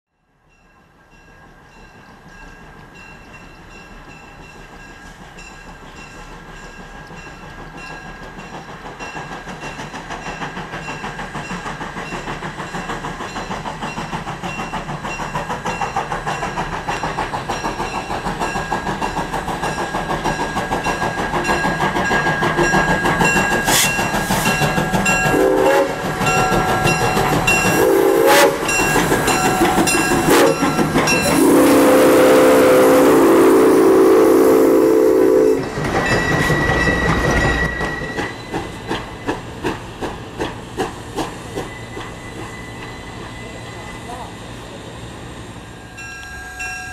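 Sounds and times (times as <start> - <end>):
steam locomotive rhythmic clatter: 0.2 - 46.9.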